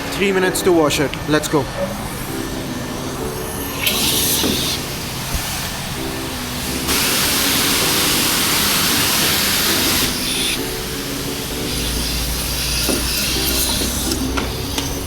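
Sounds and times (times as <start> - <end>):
high-pressure water spray hissing: 2.0 - 15.0.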